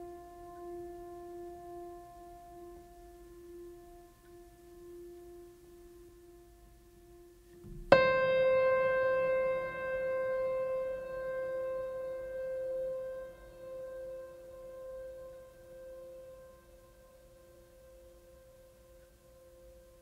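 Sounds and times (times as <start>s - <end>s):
piano note ringing: 0.0s - 20.0s
soft held tone: 0.0s - 20.0s.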